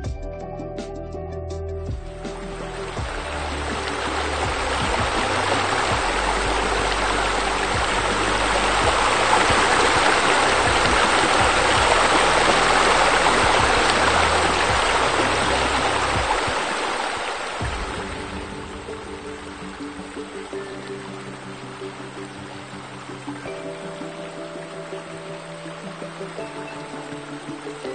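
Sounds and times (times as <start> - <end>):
low sustained notes: 0.0 - 27.9
rushing bubbling water: 2.5 - 27.9.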